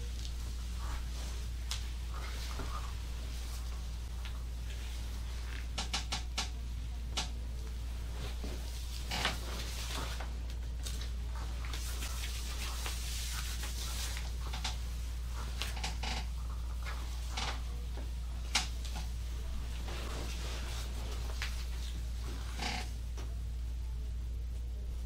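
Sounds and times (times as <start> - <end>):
hands rubbing skin and fabric: 0.0 - 5.9, 7.7 - 17.8, 18.5 - 22.8
steady low hum: 0.0 - 25.0.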